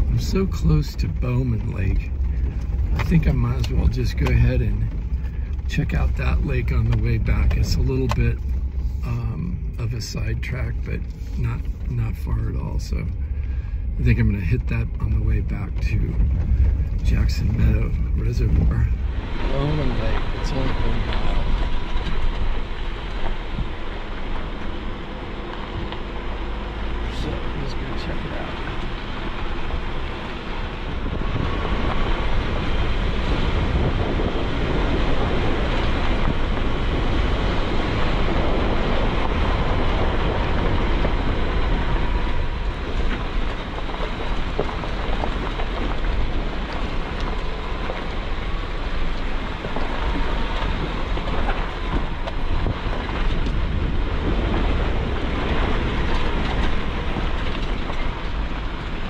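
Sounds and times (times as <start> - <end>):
engine and tyres rumbling: 0.0 - 59.0
vehicle rattling and clunking: 0.0 - 59.0.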